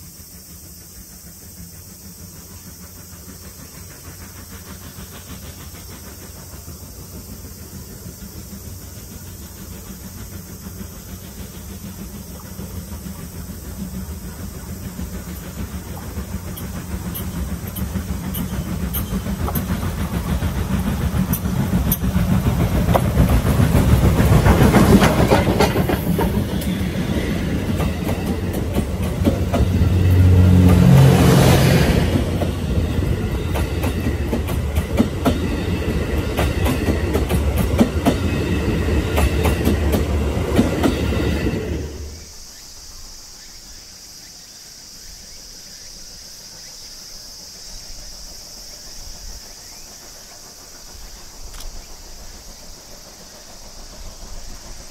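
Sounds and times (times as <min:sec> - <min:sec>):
steam locomotive passing: 0:00.0 - 0:54.9
train wheels clacking over rail joints: 0:00.3 - 0:42.5, 0:46.8 - 0:54.9.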